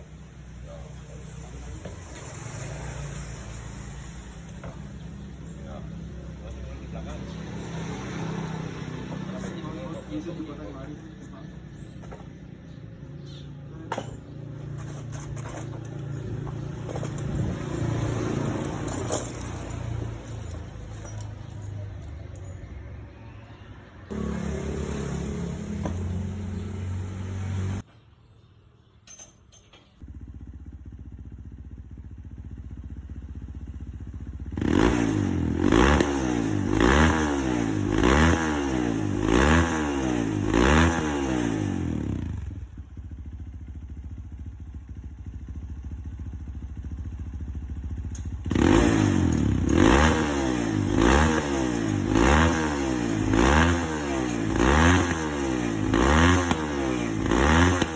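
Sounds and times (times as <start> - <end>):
motorcycle engine revving: 0.0 - 23.1, 24.0 - 27.9, 30.0 - 57.9.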